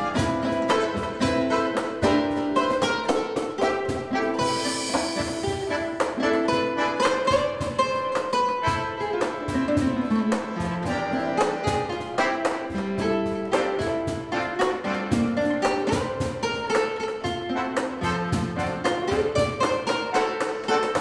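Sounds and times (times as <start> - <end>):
acoustic jazz guitar: 0.0 - 21.0.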